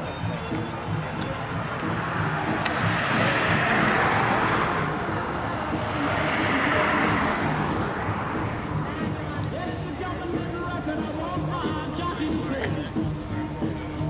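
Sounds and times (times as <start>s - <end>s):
passing road traffic: 0.0s - 14.0s.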